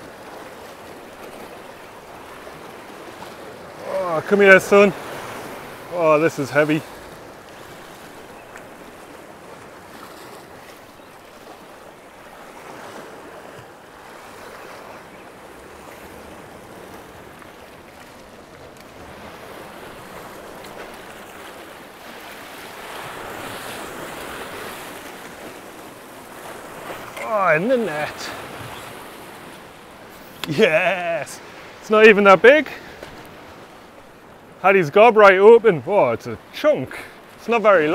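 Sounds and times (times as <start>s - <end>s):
sea surging around rocks: 0.0s - 37.9s.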